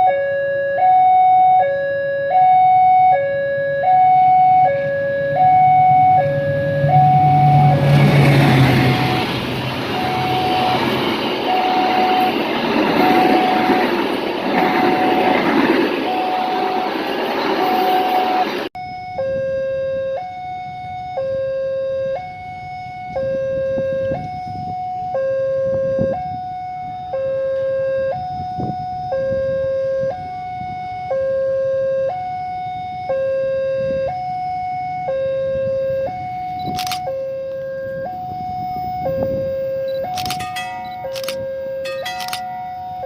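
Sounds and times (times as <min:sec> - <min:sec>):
two-tone siren: 0:00.0 - 0:43.0.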